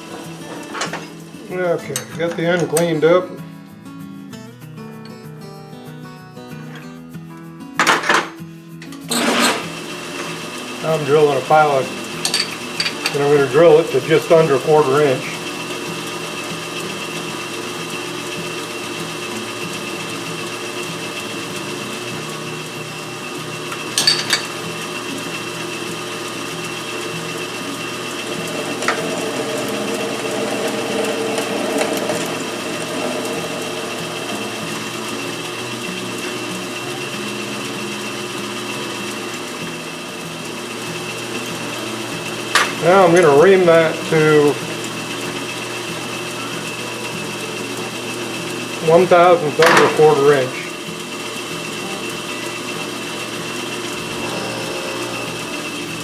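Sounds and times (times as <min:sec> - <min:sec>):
metal lathe running: 0:00.0 - 0:03.2, 0:09.1 - 0:56.0
drill bit boring into metal rod: 0:09.1 - 0:56.0.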